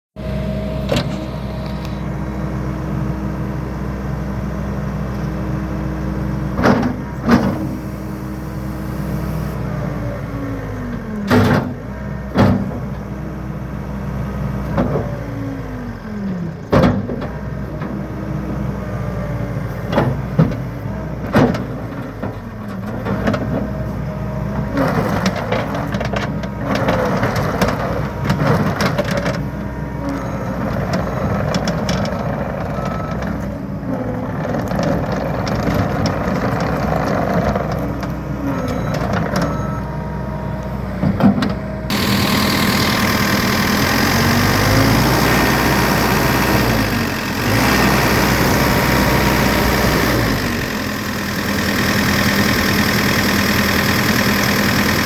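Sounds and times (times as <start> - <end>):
diesel engine running: 0.2 - 55.0.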